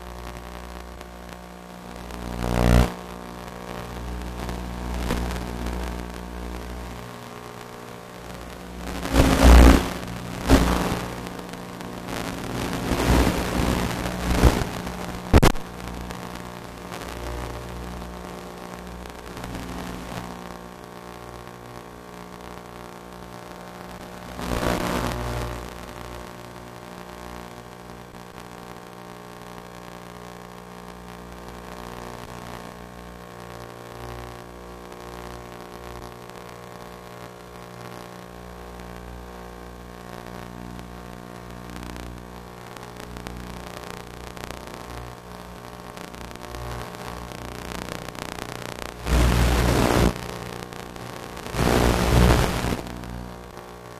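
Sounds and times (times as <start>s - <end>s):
steady hum: 0.0s - 32.8s, 36.7s - 53.9s.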